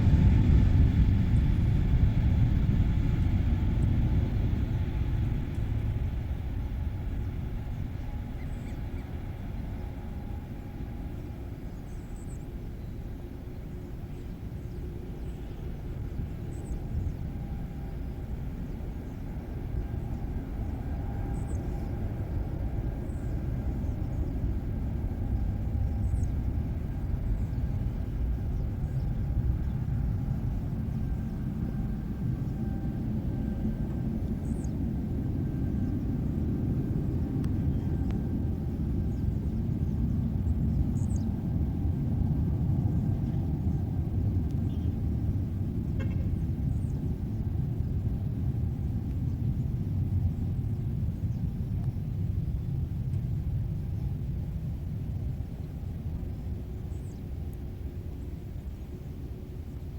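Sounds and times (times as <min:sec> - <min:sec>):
distant aircraft engine rumble: 0:00.0 - 0:59.9
faint steady whine: 0:00.0 - 0:59.9.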